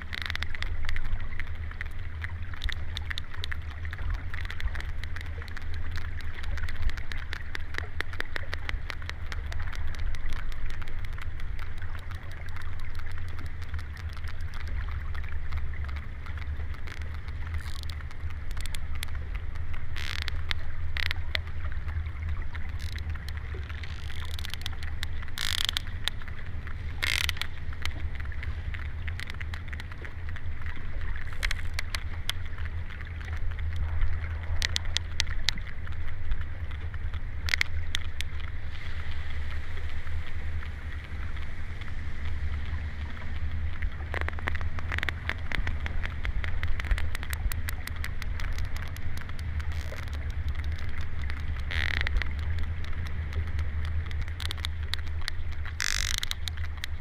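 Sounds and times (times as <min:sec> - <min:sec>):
low water rumble: 0:00.0 - 0:57.0
whale clicks underwater: 0:00.0 - 0:57.0.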